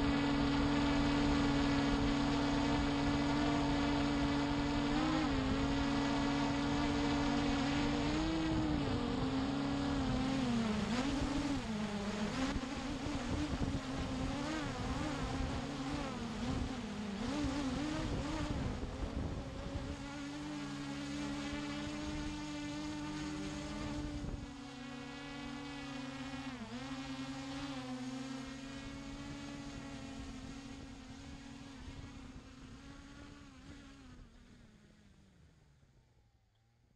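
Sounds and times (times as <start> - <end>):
drone propellers buzzing: 0.0 - 34.5.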